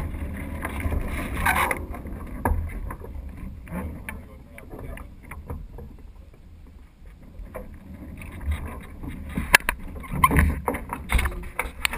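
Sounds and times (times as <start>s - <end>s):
boat knocks and clicks: 0.0s - 11.9s
water lapping against hull: 0.0s - 11.9s
wind rumble on microphone: 0.0s - 11.9s.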